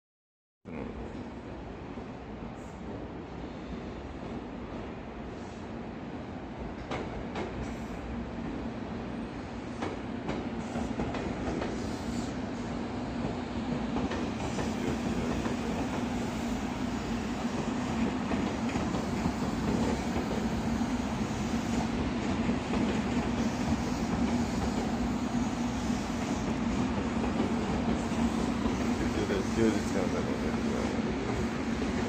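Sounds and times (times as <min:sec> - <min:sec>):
electric train running past: 0:06.2 - 0:32.0.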